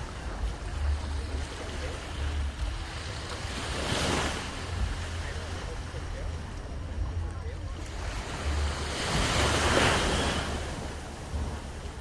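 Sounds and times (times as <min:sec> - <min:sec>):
surf washing on shore: 0:00.0 - 0:12.0
wave breaking: 0:00.0 - 0:12.0
wind rumble on microphone: 0:00.0 - 0:12.0.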